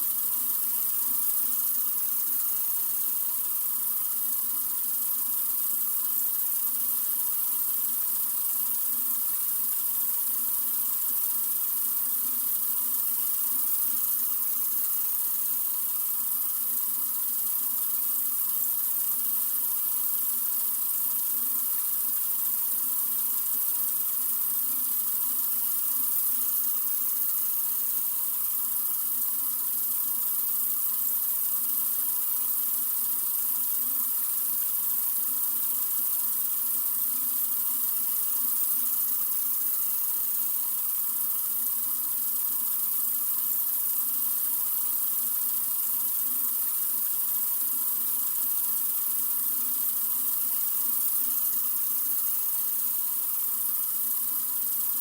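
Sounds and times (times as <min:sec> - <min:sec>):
sink faucet running: 0:00.0 - 0:55.0.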